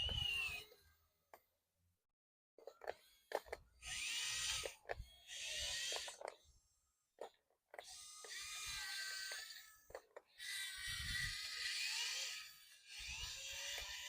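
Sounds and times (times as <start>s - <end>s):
toy truck electric motors whining: 0.0s - 1.1s, 2.6s - 14.0s.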